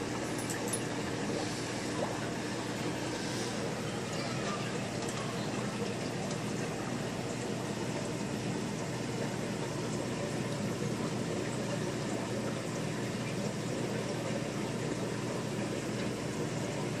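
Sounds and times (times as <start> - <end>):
aquarium air stone bubbling: 0.0 - 17.0.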